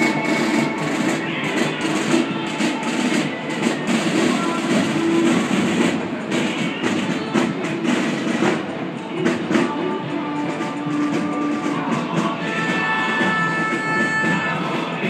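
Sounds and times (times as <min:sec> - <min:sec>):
drum strokes: 0:00.0 - 0:15.0
marching band music: 0:00.0 - 0:15.0
street and crowd noise: 0:00.0 - 0:15.0.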